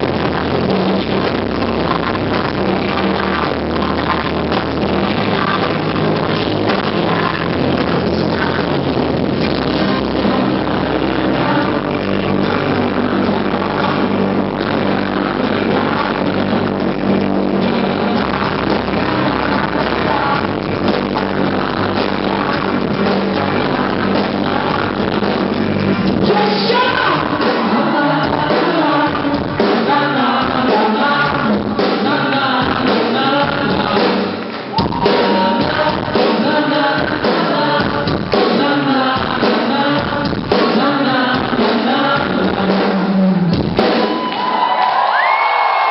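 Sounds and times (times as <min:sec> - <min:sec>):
person singing: 0:00.0 - 0:44.6
live rock band playing: 0:00.0 - 0:45.9.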